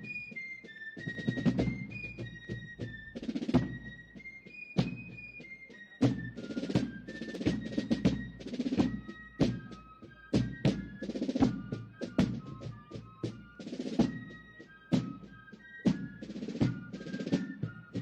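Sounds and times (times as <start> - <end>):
fife melody: 0.0 - 18.0
snare and bass drums: 1.0 - 4.2, 4.8 - 5.4, 6.0 - 18.0.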